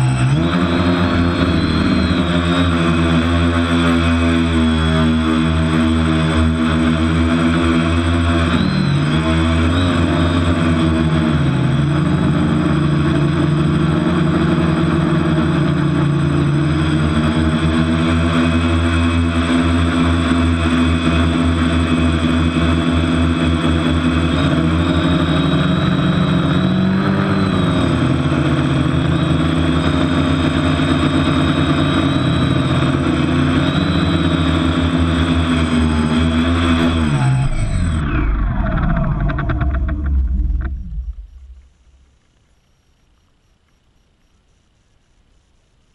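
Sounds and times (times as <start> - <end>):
quadcopter motors whining: 0.0 - 42.3.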